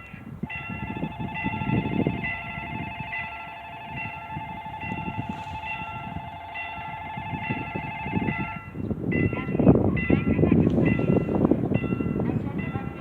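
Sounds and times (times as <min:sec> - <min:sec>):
level-crossing warning bell: 0:00.0 - 0:13.0
steady warning tone: 0:00.0 - 0:13.0.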